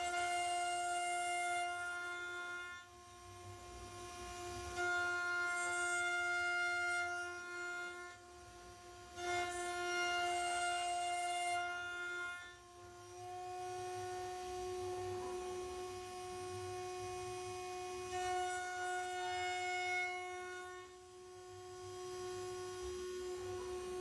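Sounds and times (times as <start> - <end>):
router spindle whine: 0.0 - 24.0.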